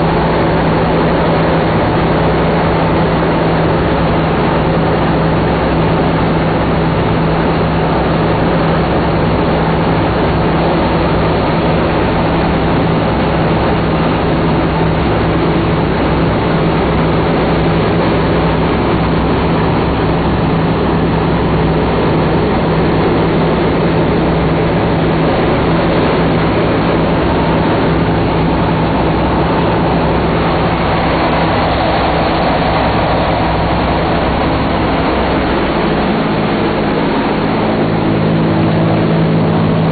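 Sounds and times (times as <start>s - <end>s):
propeller engines droning: 0.0s - 39.9s
rushing wind: 0.0s - 39.9s.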